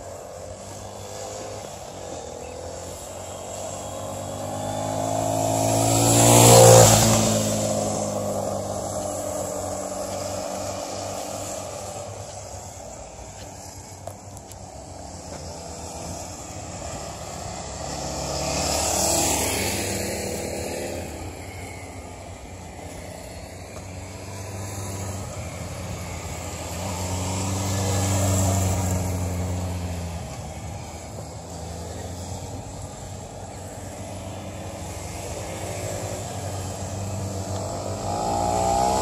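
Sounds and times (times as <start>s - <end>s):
motorcycle engines revving: 0.0s - 39.0s
motorcycle passing close: 0.0s - 39.0s.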